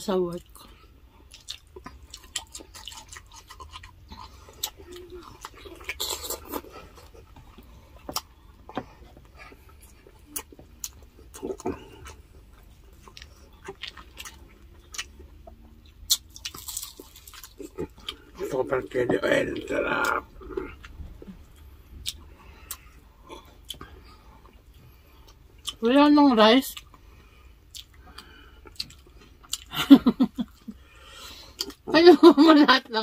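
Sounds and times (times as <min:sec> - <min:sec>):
chewing and lip smacking: 0:00.4 - 0:25.8, 0:26.7 - 0:29.7.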